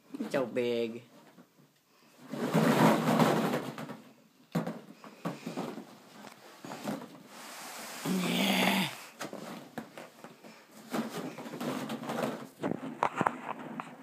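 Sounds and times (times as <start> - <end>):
plastic balls rustling and clattering: 0.0 - 14.0.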